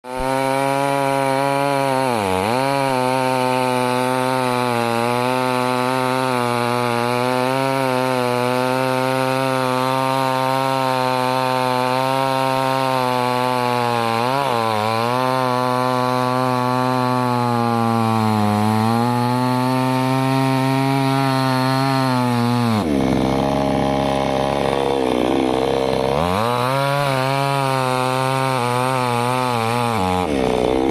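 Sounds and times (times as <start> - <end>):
chainsaw cutting wood: 0.0 - 30.9.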